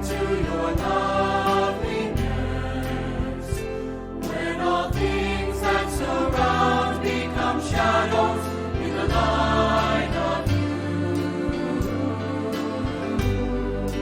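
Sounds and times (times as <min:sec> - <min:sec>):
instrumental accompaniment: 0:00.0 - 0:14.0
voices singing worship song: 0:00.0 - 0:14.0.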